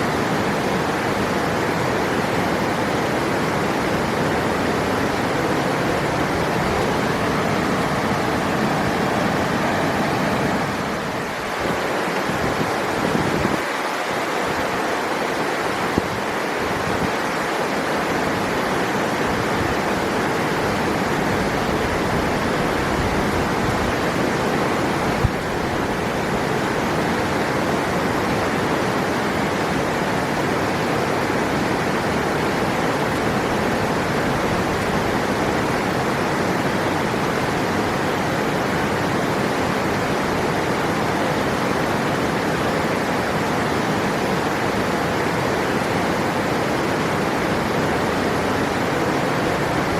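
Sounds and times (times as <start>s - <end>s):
river rushing over rocks: 0.0s - 49.9s.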